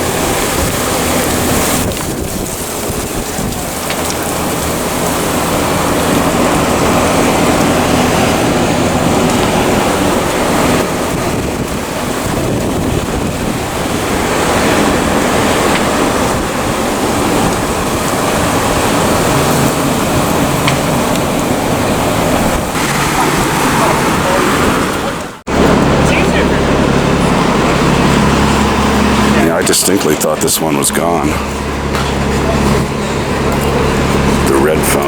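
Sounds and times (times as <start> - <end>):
low engine hum: 0.0 - 35.0
rushing street noise: 0.0 - 35.0.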